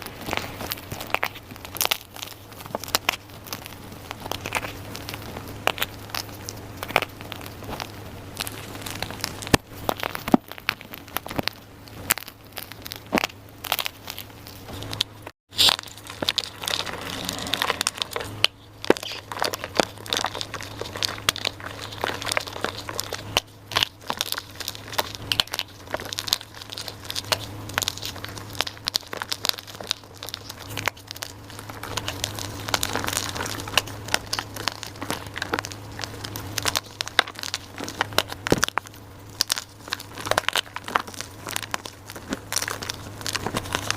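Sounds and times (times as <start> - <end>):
chalk crunching and crackling: 0.0 - 43.9
faint low hum: 0.0 - 43.9.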